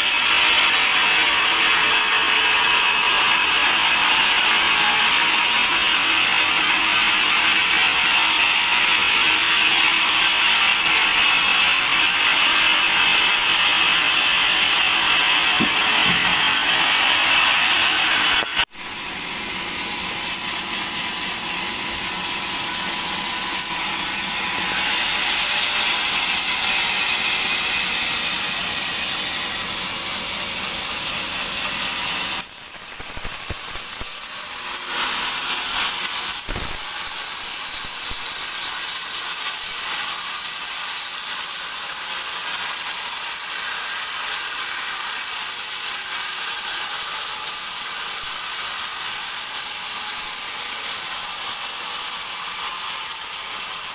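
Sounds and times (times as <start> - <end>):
band saw cutting log: 0.0 - 53.9.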